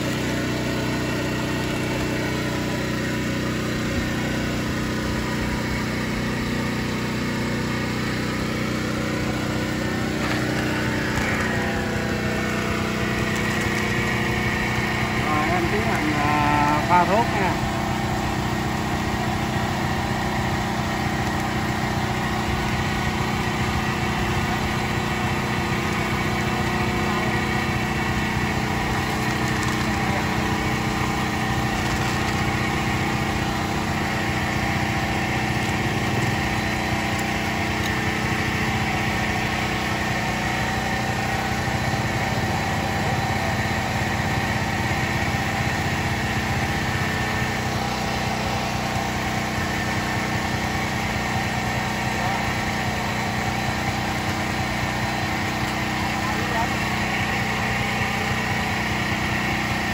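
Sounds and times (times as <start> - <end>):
small engine humming: 0.0 - 59.9.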